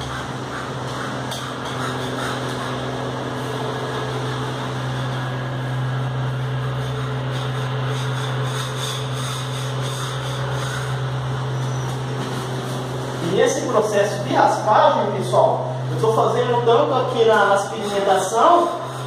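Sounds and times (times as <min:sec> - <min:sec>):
spatula scraping wall: 0:00.0 - 0:15.4, 0:16.0 - 0:19.0
steady low hum: 0:00.0 - 0:19.0.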